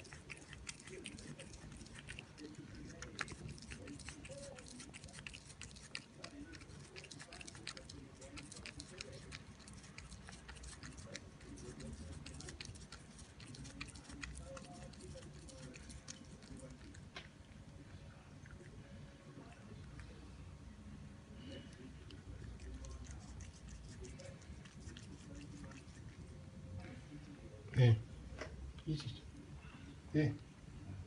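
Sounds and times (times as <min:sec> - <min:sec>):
cat crunching cucumber: 0:00.0 - 0:20.4, 0:21.3 - 0:27.2.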